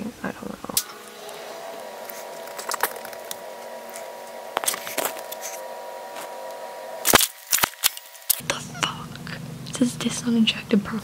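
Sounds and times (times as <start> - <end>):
steady hum of held tones: 0.0 - 11.0.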